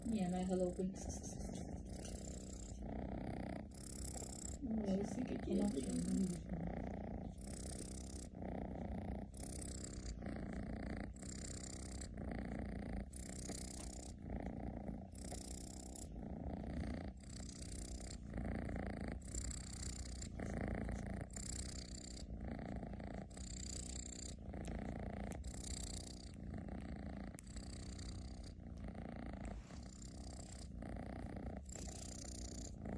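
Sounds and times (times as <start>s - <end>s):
cat snoring: 0.0s - 32.9s.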